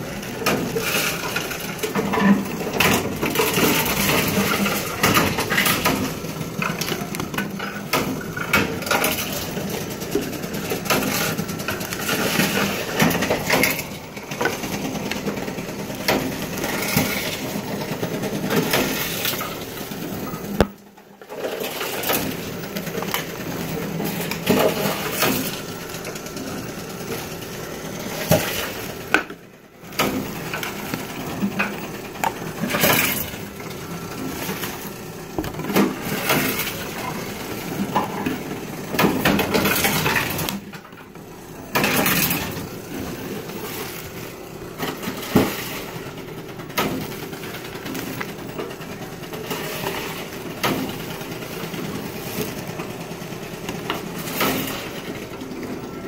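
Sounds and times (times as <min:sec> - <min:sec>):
plastic bottles knocking and clattering: 0:00.3 - 0:27.4, 0:28.0 - 0:55.8.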